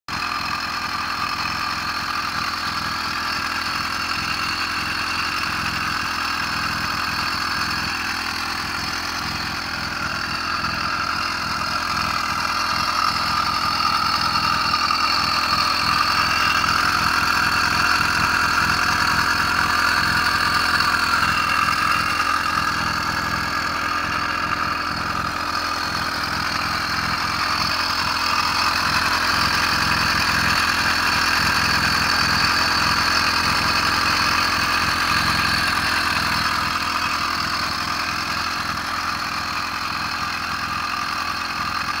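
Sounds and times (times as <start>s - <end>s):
two-stroke engine idling: 0.0s - 42.0s.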